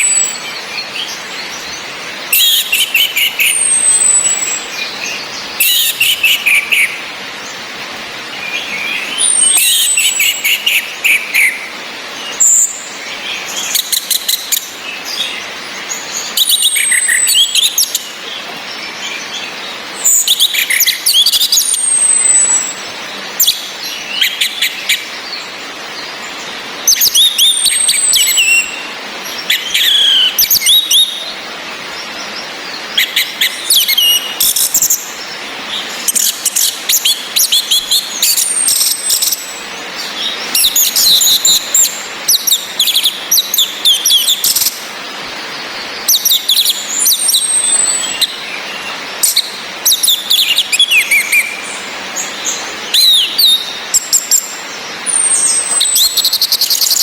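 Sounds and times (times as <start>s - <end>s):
rain hissing: 0.0s - 57.0s
thrushes singing: 0.0s - 57.0s.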